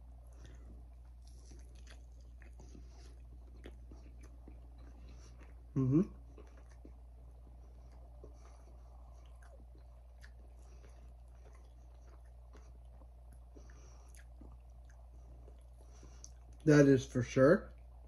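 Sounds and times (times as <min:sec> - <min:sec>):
chewing food: 0:00.0 - 0:16.7
steady low hum: 0:00.0 - 0:18.0.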